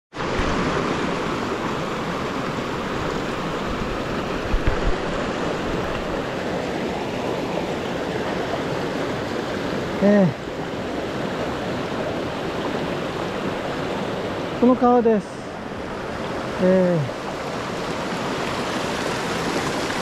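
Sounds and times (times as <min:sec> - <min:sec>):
river rushing over boulders: 0:00.1 - 0:20.0.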